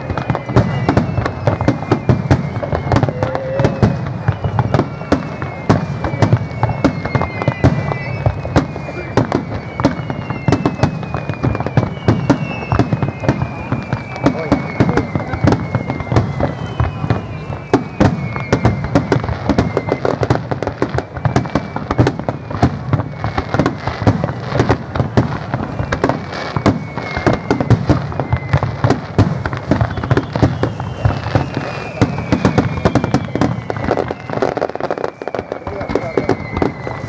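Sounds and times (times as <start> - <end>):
firework bursts banging: 0.0 - 37.0
firework crackling: 0.0 - 37.0
firework whistles sliding down: 0.0 - 37.0.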